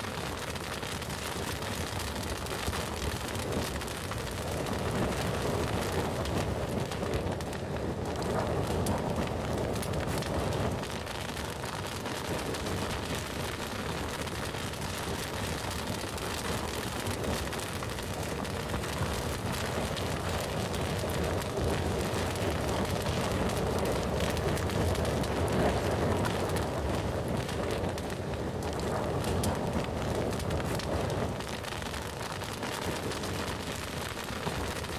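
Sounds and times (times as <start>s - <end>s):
fire crackles and pops: 0.0s - 34.9s
wood bonfire burning: 0.0s - 34.9s.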